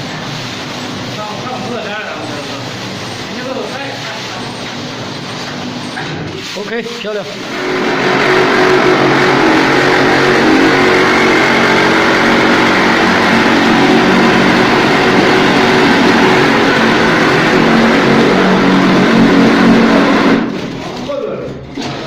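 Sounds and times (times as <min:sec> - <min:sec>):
plastering machine motor hum: 0:00.0 - 0:22.0.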